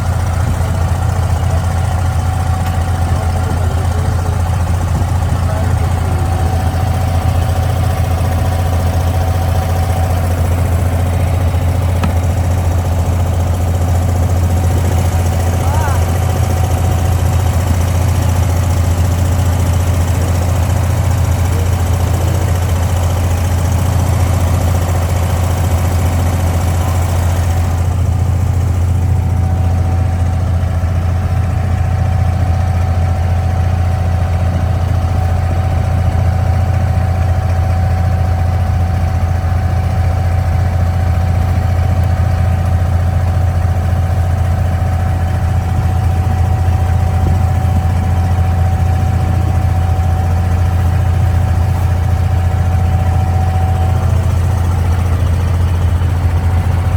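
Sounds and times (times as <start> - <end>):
boat diesel engine droning: 0.0 - 56.9.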